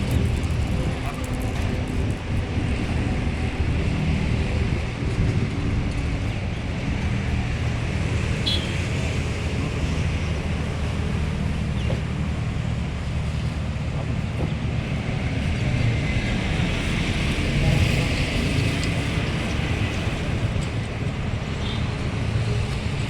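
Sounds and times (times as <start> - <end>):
road and wind noise: 0.0 - 23.0.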